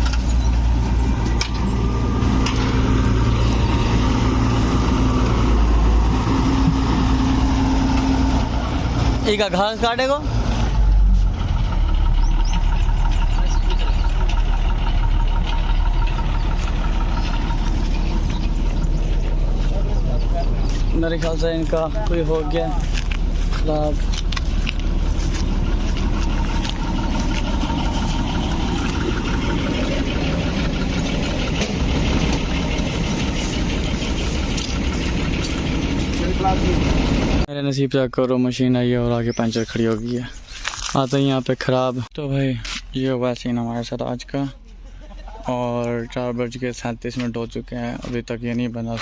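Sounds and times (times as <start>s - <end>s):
farm machine engine rumbling: 0.0s - 37.5s, 38.2s - 49.0s.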